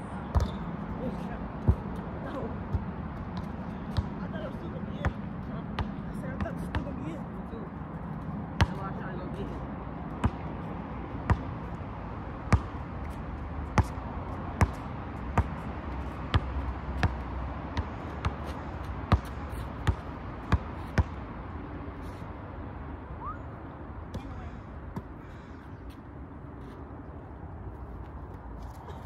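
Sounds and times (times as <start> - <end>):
basketball bouncing on asphalt: 0.2 - 21.6, 24.0 - 26.8.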